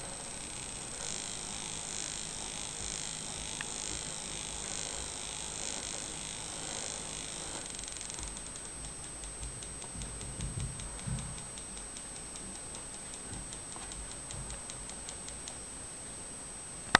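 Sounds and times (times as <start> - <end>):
stepper motor clicking: 0.0 - 16.0.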